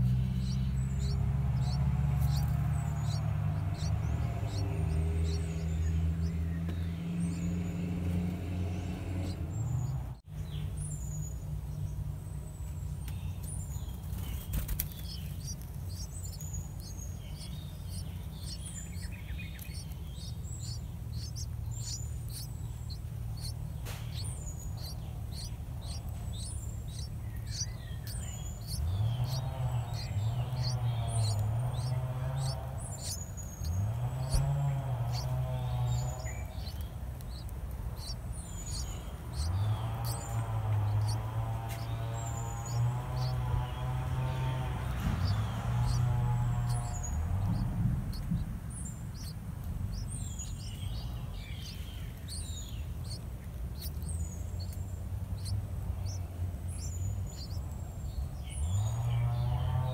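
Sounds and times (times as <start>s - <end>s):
high bird chirps: 0.0s - 10.0s, 13.1s - 59.9s
loud low hum: 0.0s - 10.2s, 13.8s - 59.9s.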